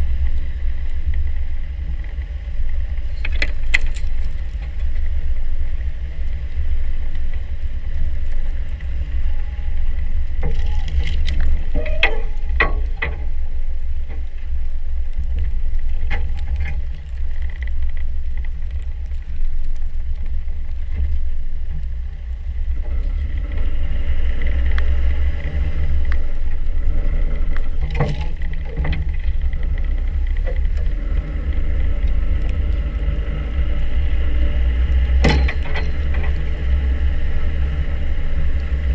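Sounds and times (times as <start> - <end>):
off-road vehicle engine rumble: 0.0 - 38.9.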